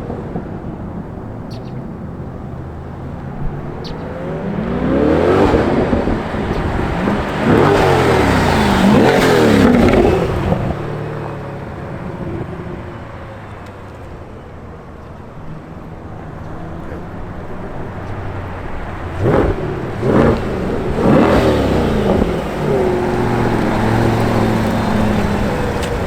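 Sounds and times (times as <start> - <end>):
car engine revving and idling: 0.6 - 14.3, 15.1 - 26.0.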